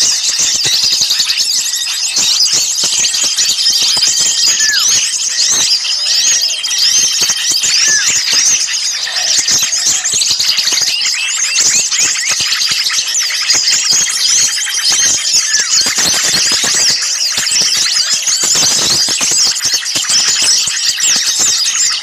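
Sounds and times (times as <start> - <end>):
songbirds chirping chorus: 0.0 - 22.0.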